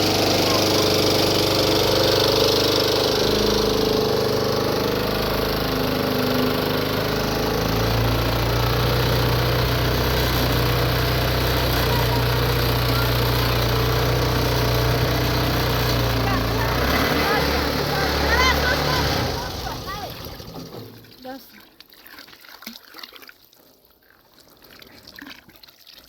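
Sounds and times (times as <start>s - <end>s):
tractor engine running: 0.0s - 21.2s.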